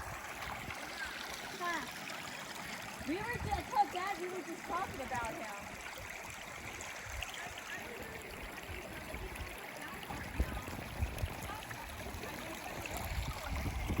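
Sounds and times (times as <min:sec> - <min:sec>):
river water flowing over rocks: 0:00.0 - 0:14.0.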